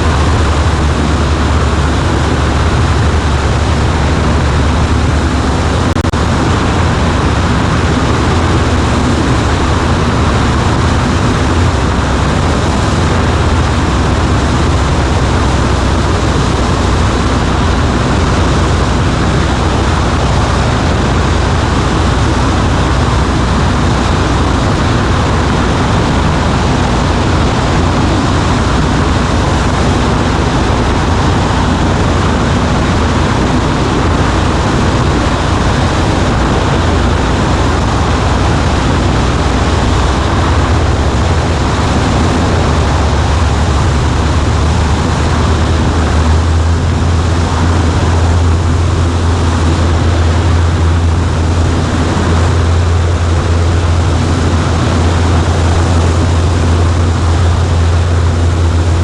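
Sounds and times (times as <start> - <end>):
aircraft engine and propeller drone: 0.0 - 59.0
low hum: 0.0 - 59.0
rushing air: 0.0 - 59.0.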